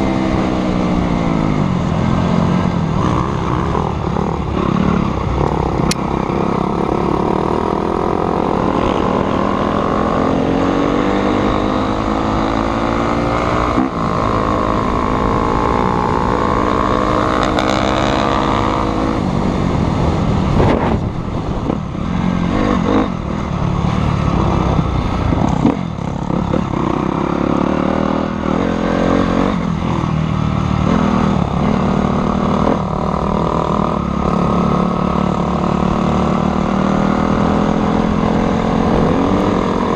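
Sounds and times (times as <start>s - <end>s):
dirt bike engine revving: 0.0s - 19.3s, 20.0s - 39.9s.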